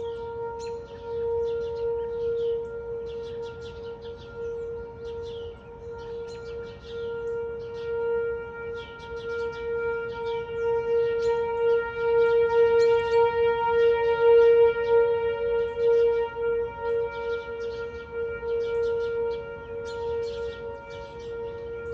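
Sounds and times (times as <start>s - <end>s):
tornado siren steady tone: 0.0s - 21.9s.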